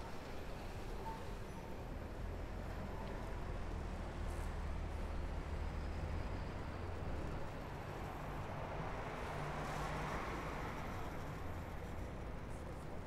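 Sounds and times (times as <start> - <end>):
road traffic rumble: 1.8 - 13.0.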